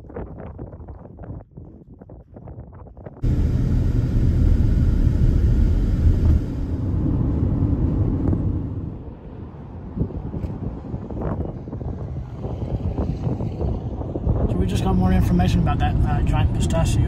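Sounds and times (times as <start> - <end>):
car wind and road noise: 0.0 - 17.0.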